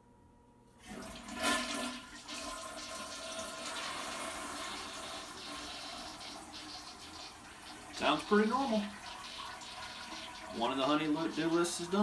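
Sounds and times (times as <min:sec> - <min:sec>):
toilet flushing: 0:00.8 - 0:12.0.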